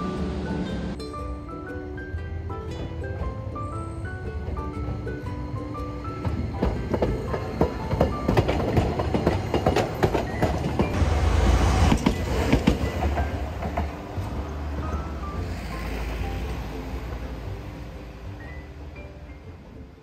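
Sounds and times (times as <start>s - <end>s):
tram low rumble: 0.0s - 20.0s
tram wheels clicking on rails: 0.0s - 20.0s.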